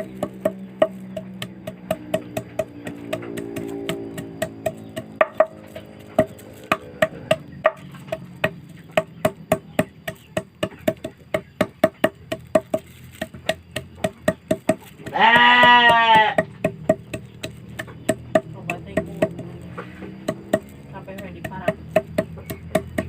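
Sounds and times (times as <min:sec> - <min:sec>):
hollow wooden knocking: 0:00.0 - 0:23.0.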